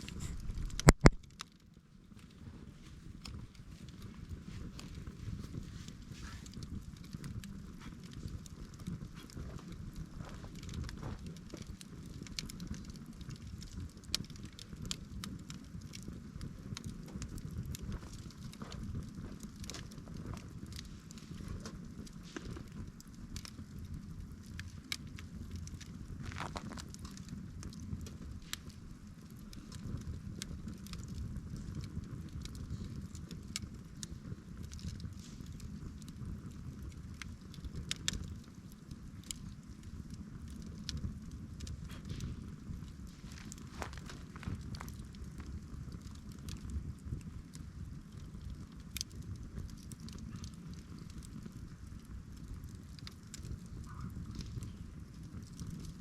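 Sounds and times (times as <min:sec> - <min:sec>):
campfire crackling and popping: 0:00.0 - 0:56.0
low fire rumble: 0:00.0 - 0:56.0.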